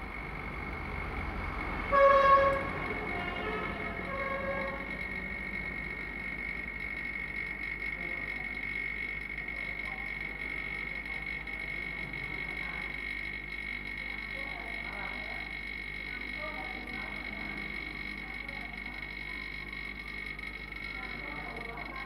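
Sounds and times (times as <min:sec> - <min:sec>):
vacuum pump whine and hum: 0:00.0 - 0:22.0.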